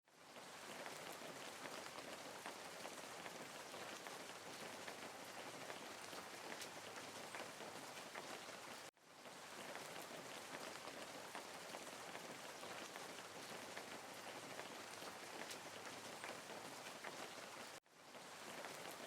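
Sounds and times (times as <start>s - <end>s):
faint water noise: 0.1s - 19.0s.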